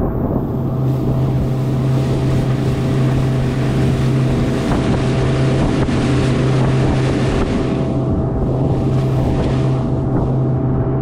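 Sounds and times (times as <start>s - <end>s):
motorboat engine running: 0.0s - 11.0s
wind on microphone: 0.0s - 11.0s
water spray rushing: 0.8s - 10.4s.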